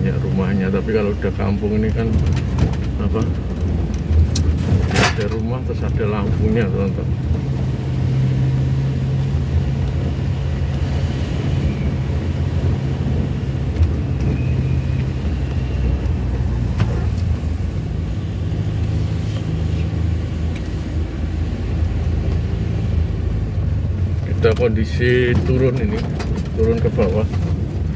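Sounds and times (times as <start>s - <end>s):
road noise: 0.0s - 27.9s
vehicle engine humming: 0.0s - 27.9s.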